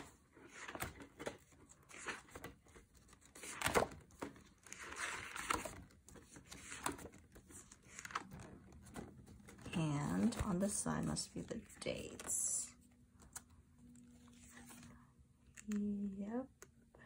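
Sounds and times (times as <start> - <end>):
paper rustling: 0.0 - 12.6, 13.2 - 15.0.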